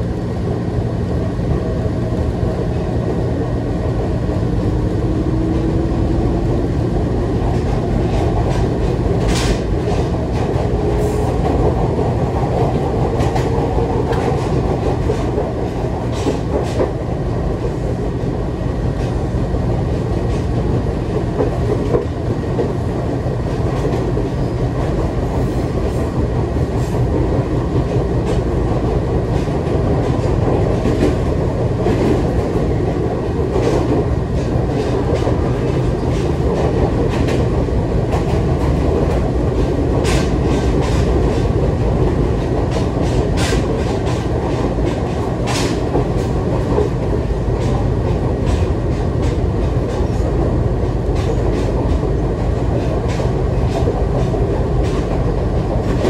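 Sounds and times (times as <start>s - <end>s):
train running rumble: 0.0s - 56.0s
wheels clicking on track: 5.2s - 56.0s.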